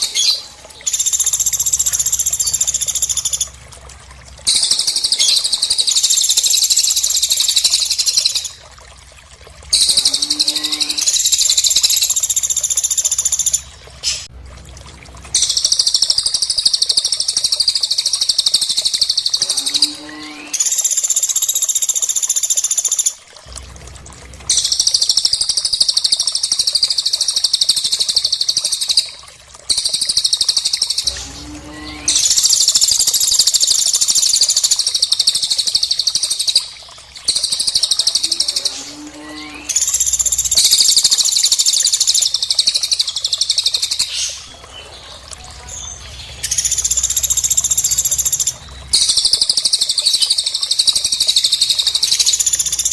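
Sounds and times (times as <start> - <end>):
recorded songbird calls: 0.0 - 3.6, 4.5 - 8.6, 9.7 - 14.3, 15.3 - 23.1, 24.5 - 52.9.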